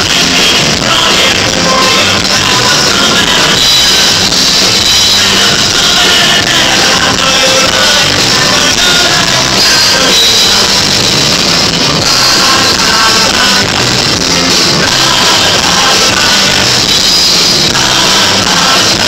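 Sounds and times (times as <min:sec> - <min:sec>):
drum kit: 0:00.0 - 0:19.0
electric guitar: 0:00.0 - 0:19.0
man singing: 0:00.0 - 0:19.0.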